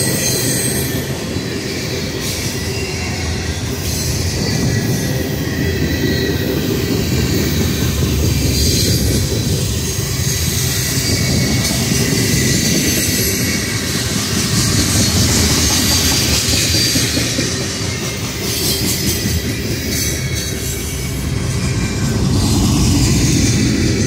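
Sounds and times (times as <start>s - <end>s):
freight train wheels rumbling on rail: 0.0s - 24.0s
high wheel squeal: 0.0s - 24.0s.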